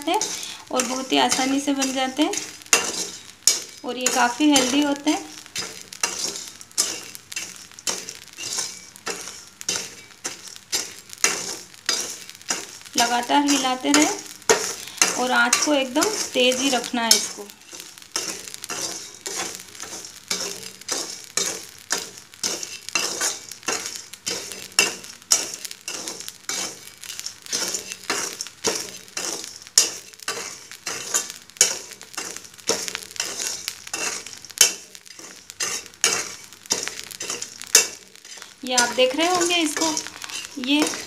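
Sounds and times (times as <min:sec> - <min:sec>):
metal ladle scraping salt: 0:00.0 - 0:41.0.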